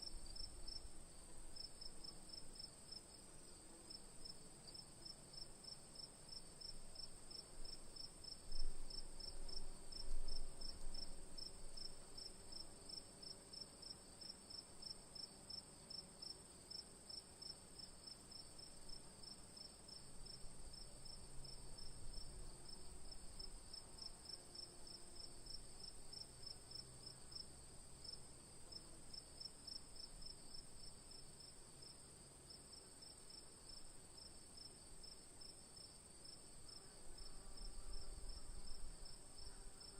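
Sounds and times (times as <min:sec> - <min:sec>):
crickets chirping: 0:00.0 - 0:04.0, 0:04.6 - 0:39.9.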